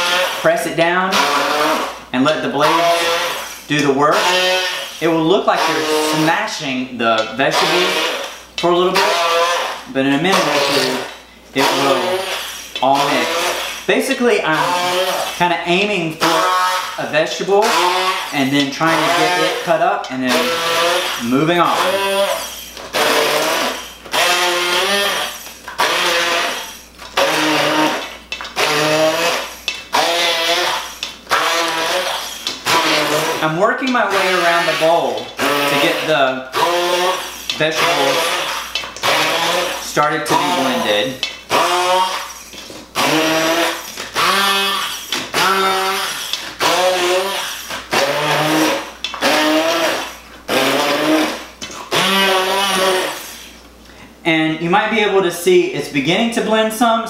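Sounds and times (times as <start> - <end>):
immersion blender chopping vegetables: 0.0 - 53.6.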